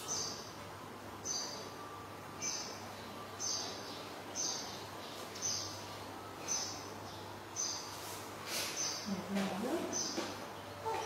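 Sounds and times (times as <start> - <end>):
bird chirping: 0.0 - 0.6, 1.2 - 11.0.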